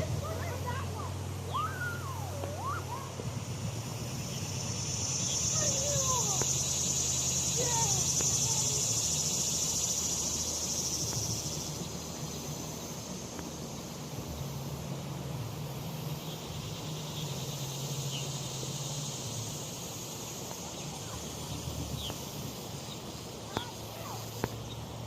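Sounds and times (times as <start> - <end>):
insects buzzing: 0.0 - 25.0
low steady rumble: 0.0 - 25.0.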